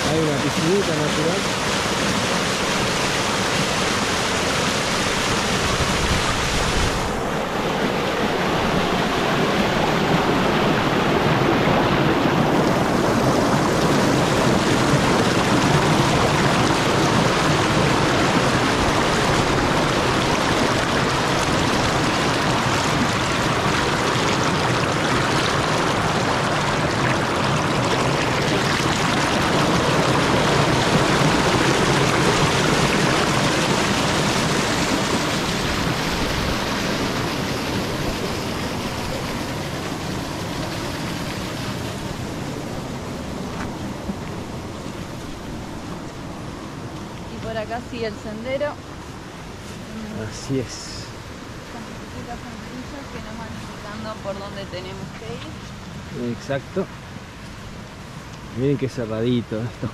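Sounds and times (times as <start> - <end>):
creek rushing over boulders: 0.0 - 59.9.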